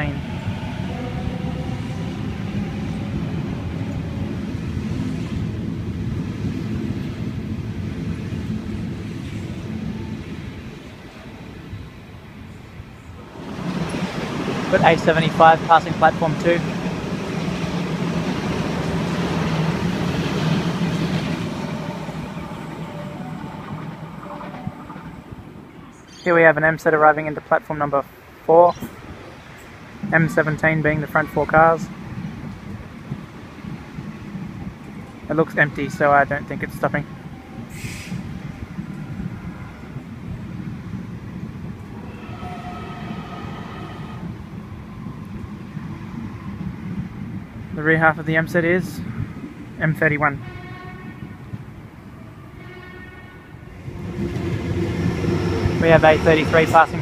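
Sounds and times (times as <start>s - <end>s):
electric train passing: 0.0s - 27.5s, 28.1s - 49.8s, 51.3s - 57.0s.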